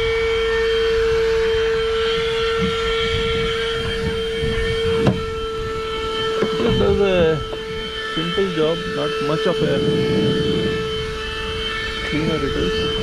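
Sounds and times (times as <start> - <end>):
handheld vacuum cleaner whining: 0.0 - 13.0.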